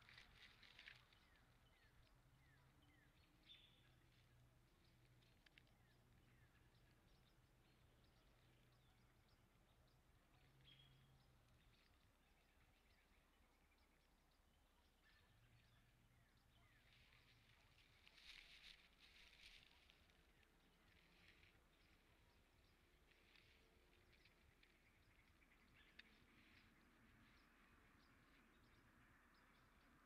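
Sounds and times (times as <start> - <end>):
light crackles: 0.0 - 13.6, 14.9 - 30.0
faint low hum: 0.0 - 30.0.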